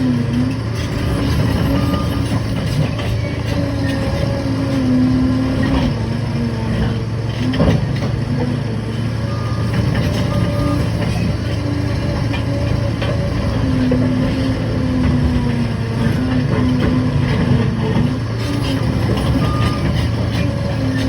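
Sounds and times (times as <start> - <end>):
diesel engine under load: 0.0 - 21.0.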